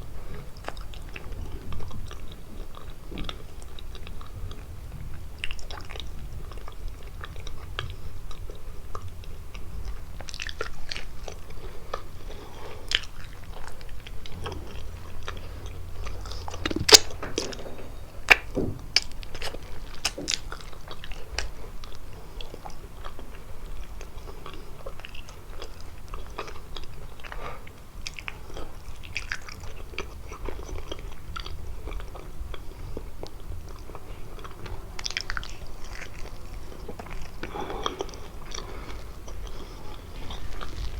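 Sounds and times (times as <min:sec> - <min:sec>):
chewing and biting pastry: 0:00.0 - 0:40.9.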